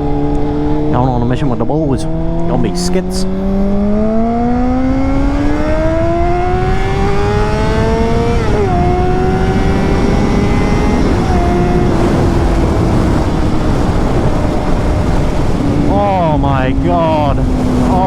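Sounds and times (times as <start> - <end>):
motorcycle engine accelerating: 0.0 - 18.0
wind noise: 0.0 - 18.0.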